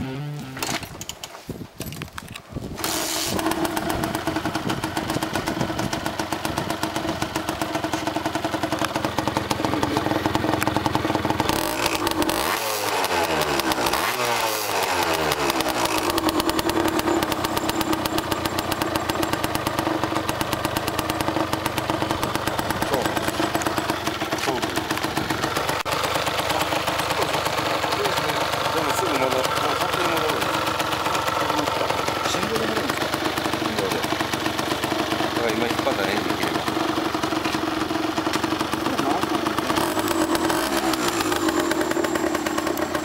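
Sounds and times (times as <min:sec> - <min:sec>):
engine revving: 0:02.8 - 0:08.0, 0:08.6 - 0:43.0
two-stroke motorcycle engine idling: 0:02.8 - 0:43.0.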